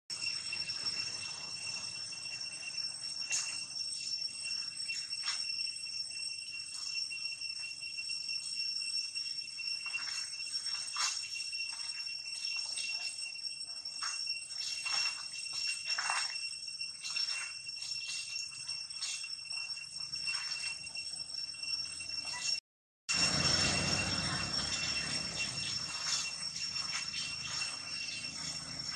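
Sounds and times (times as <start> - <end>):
high-pitched ringing tone: 0.1 - 28.9.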